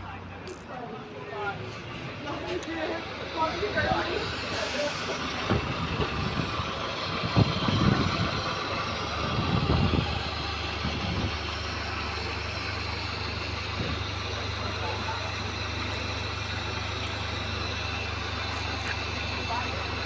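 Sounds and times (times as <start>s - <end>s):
diesel bus engine running: 0.0s - 20.0s.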